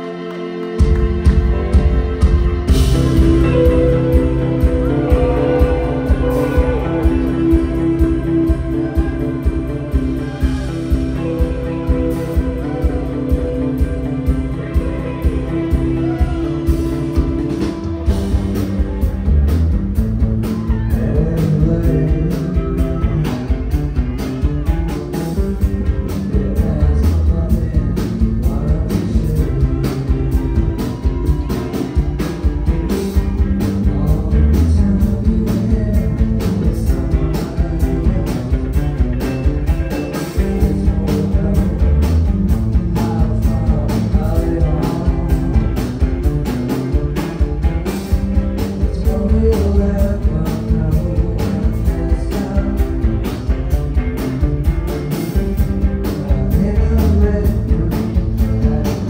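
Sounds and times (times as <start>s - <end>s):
rock band playing: 0.0s - 59.0s
man singing: 2.9s - 18.1s, 20.5s - 54.7s, 55.3s - 59.0s.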